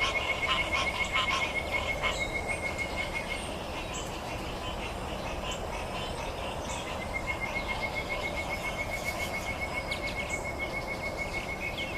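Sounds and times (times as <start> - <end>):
frog chorus: 0.0 - 11.9.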